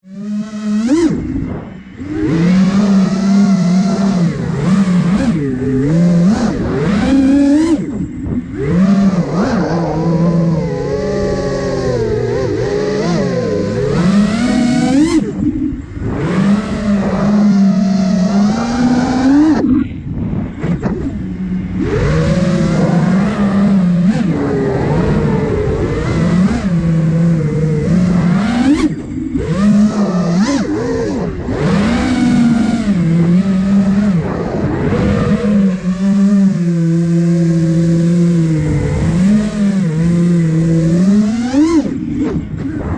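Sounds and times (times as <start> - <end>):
drone motors and propellers whining: 0.0 - 42.9.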